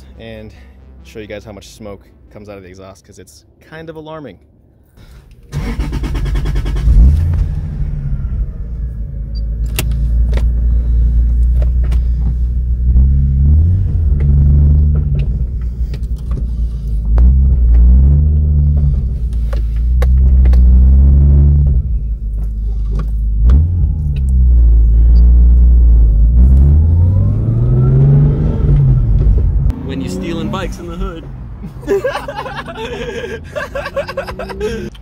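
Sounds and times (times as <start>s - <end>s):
car engine starting and revving: 5.4s - 35.0s.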